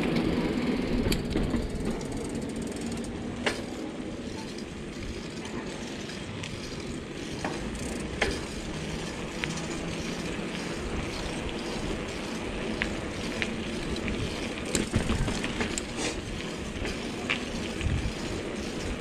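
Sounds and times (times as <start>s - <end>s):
bicycle tyres rumbling on asphalt: 0.0s - 19.0s
sharp clicks and rattles: 0.9s - 19.0s.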